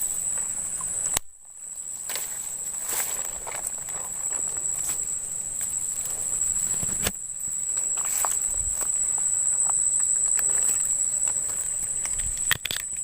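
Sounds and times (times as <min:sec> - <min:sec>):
high-pitched drone of insects: 0:00.0 - 0:13.0.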